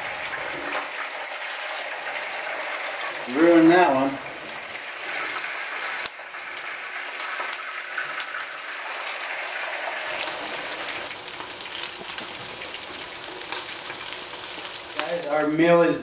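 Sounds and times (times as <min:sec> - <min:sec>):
fish sizzling in hot oil: 0:00.0 - 0:15.6
oil crackling pops: 0:00.1 - 0:15.5.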